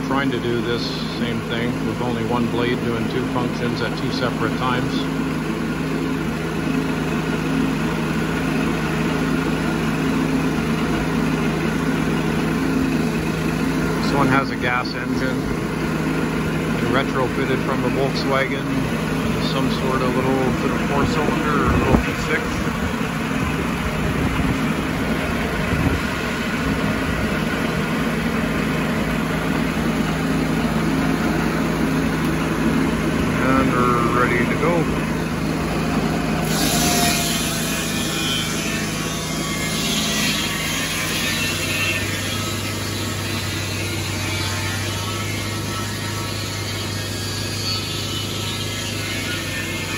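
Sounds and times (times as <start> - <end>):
gasoline engine running steadily: 0.0 - 49.9.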